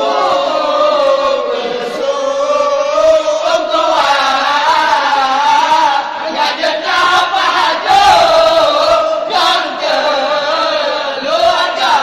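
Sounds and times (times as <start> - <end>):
young men chanting together: 0.0 - 12.0.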